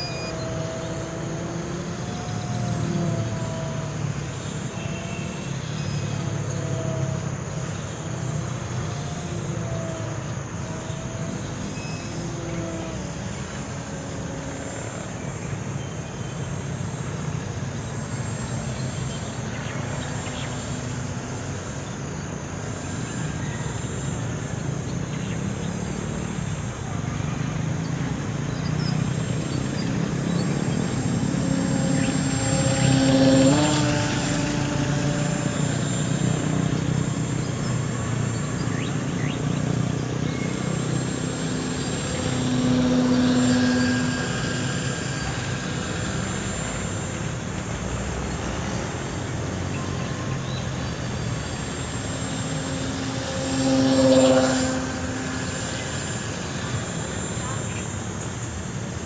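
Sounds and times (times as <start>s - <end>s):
model plane motor whining: 0.0s - 59.0s.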